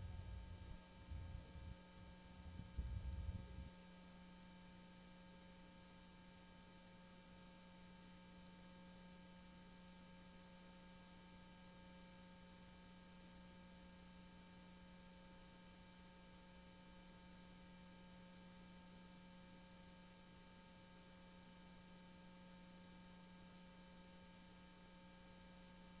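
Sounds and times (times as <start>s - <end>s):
faint steady hum with hiss: 0.0s - 26.0s.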